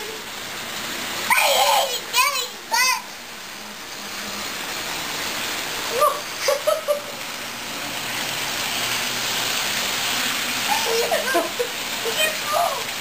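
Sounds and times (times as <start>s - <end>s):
toy train running on metal track: 0.0s - 13.0s.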